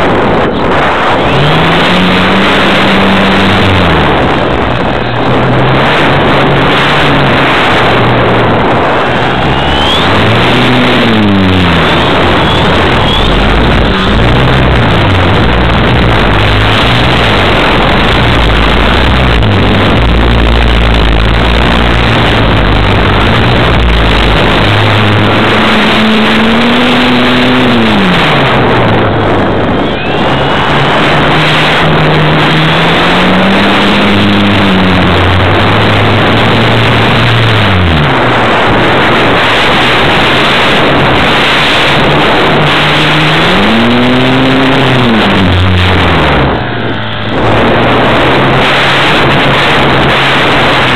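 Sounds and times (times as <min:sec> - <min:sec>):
wind and prop wash rushing: 0:00.0 - 0:50.9.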